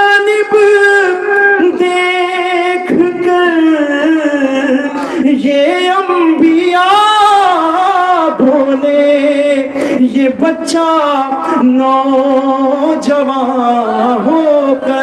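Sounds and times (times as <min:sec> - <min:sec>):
man singing melodic recitation: 0:00.0 - 0:15.0.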